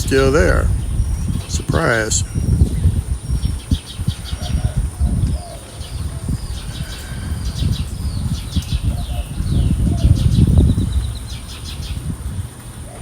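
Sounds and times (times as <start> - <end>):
birds chirping and warbling: 0.0 - 13.0
wind buffeting microphone: 0.0 - 13.0.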